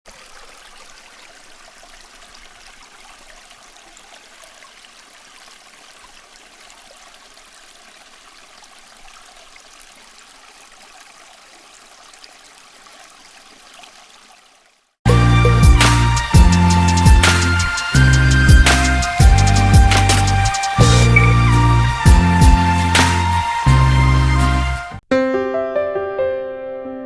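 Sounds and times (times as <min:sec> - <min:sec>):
fountain water trickling: 0:00.1 - 0:23.8.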